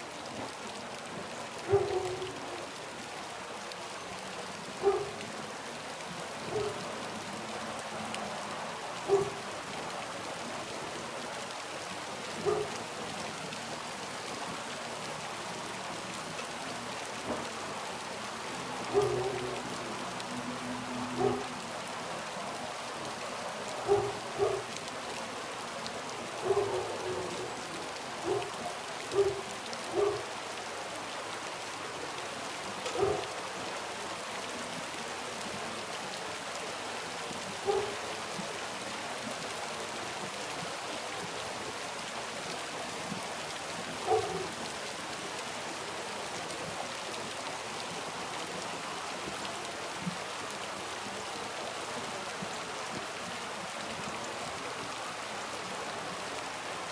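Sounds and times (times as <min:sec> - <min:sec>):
soft steady rain: 0:00.0 - 0:56.9.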